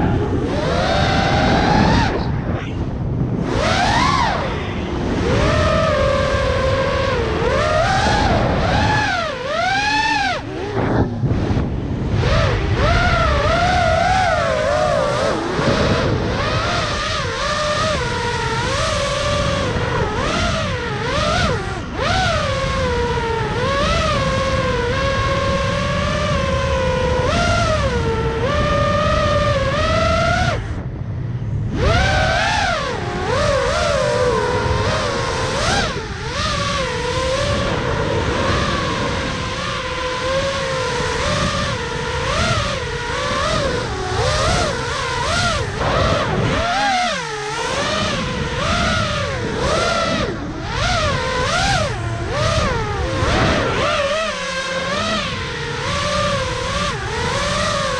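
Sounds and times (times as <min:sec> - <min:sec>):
drone motors and propellers whining: 0:00.0 - 0:57.9.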